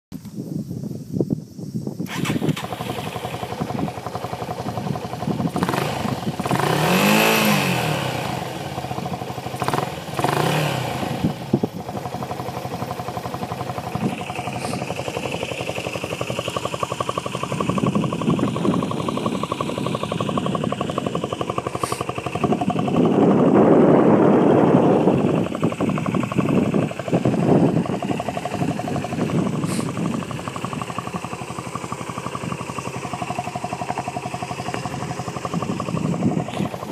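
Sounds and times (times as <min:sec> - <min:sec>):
motorcycle engine idling and revving: 0:00.2 - 0:36.9.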